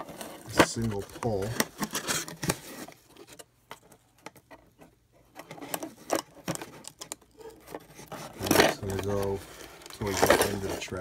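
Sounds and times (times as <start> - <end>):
cardboard rustling: 0.0 - 11.0.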